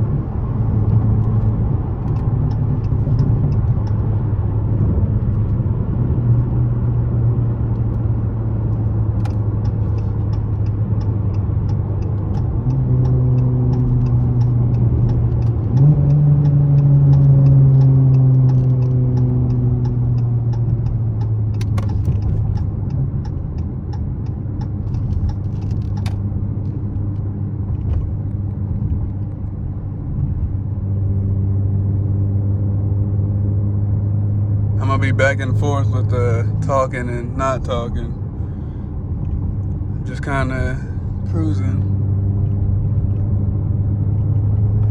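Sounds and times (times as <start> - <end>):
car exhaust drone: 0.0 - 44.9.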